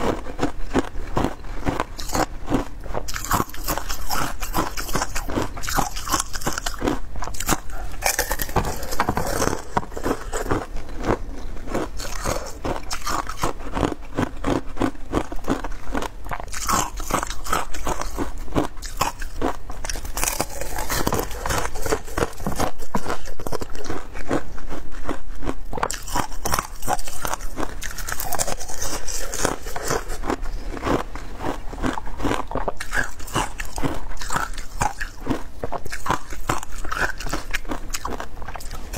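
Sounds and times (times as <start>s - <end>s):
crunching ice between teeth: 0.0s - 38.9s.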